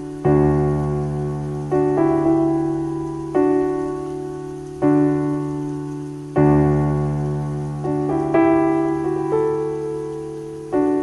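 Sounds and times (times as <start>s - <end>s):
slow gentle piano chords: 0.0s - 11.0s.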